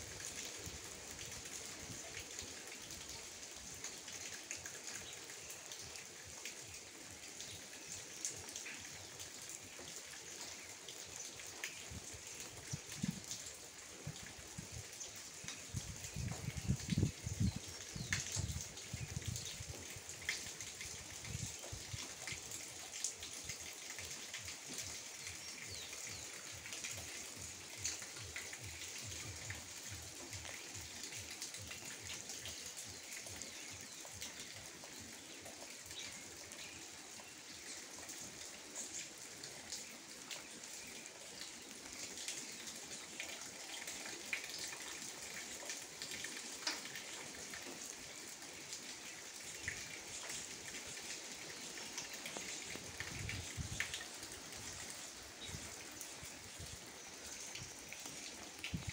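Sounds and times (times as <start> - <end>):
gentle rain falling: 0.0 - 58.9.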